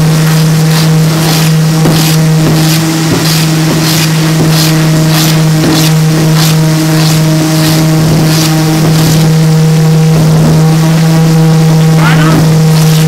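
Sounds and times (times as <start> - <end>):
hand plane shaving wood: 0.0 - 13.0
low machine hum: 0.0 - 13.0.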